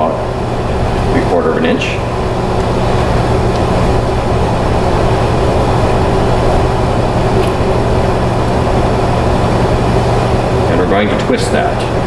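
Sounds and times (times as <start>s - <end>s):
machine hum and rumble: 0.0s - 12.0s.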